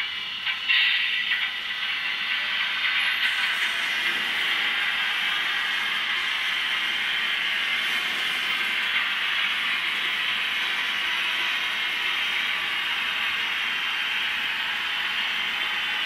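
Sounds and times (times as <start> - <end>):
model train motors whirring: 0.0 - 16.0
metal wheels rattling on track: 0.3 - 16.0.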